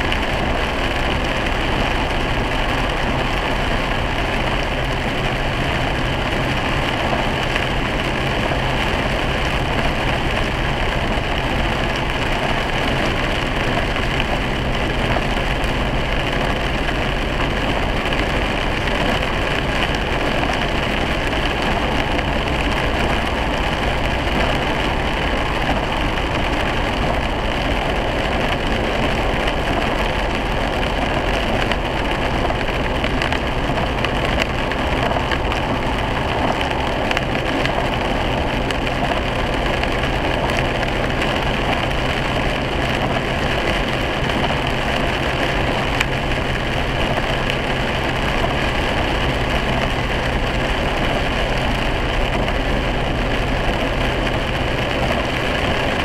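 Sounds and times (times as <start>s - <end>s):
car engine running: 0.0s - 56.0s
tyres on wet pavement: 0.0s - 56.0s.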